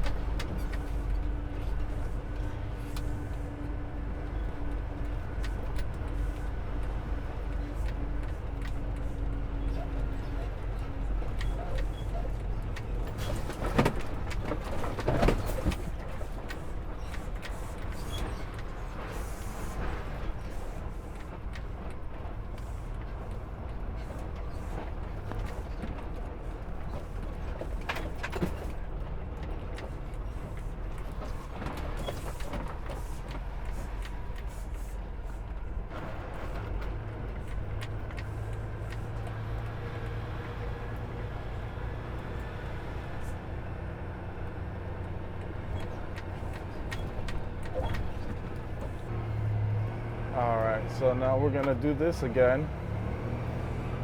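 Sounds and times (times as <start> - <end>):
road noise inside cab: 0.0 - 54.0
truck engine running: 0.0 - 54.0.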